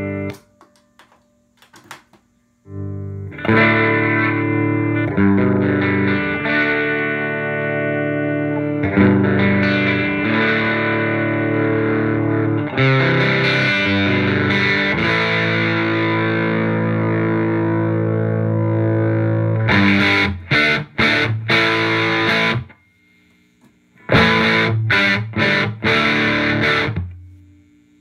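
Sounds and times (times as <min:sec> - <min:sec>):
overdriven electric guitar chords: 0:00.0 - 0:01.2, 0:02.6 - 0:22.8, 0:24.0 - 0:27.6.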